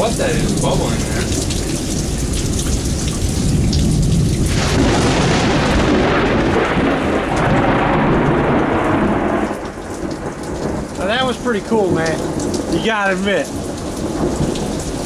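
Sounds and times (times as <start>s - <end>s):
heavy rain pouring: 0.0s - 15.0s
rolling thunder: 0.0s - 15.0s.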